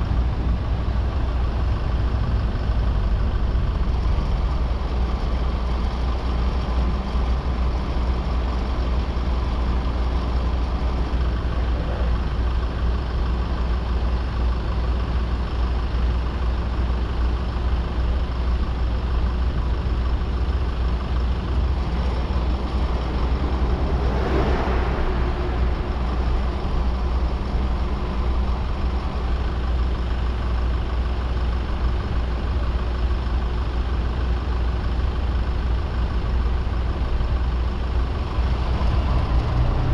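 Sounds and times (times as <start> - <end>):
vehicle running low rumble: 0.0 - 39.9.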